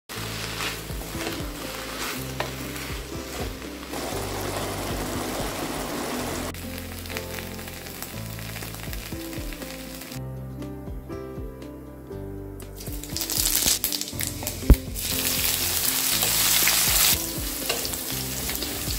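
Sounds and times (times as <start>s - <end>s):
vegetables sizzling in a pan: 0.1s - 10.2s, 12.8s - 18.9s
background music: 0.1s - 18.9s.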